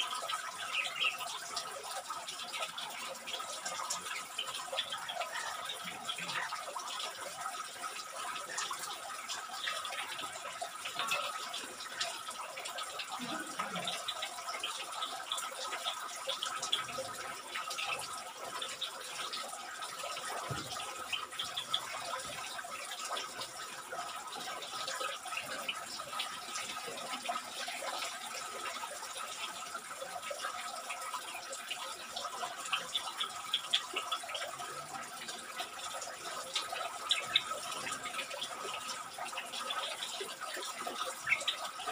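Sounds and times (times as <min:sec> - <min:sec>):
water dripping: 0:00.0 - 0:41.9
water trickling: 0:00.0 - 0:41.9.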